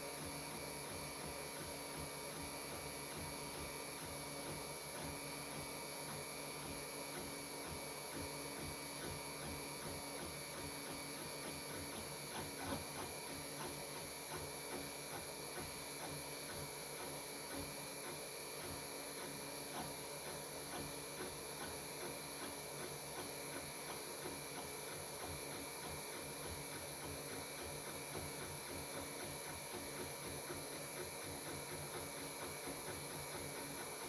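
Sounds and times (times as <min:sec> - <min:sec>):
printer stepper motors humming: 0:00.1 - 0:34.0.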